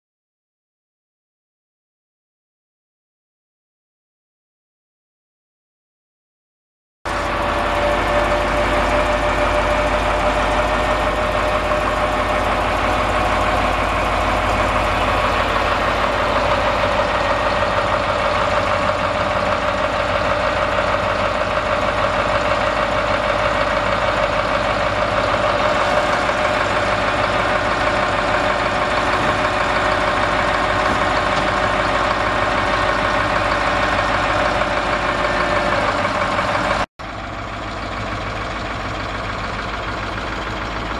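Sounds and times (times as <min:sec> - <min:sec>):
truck diesel engine running: 0:07.1 - 0:40.9.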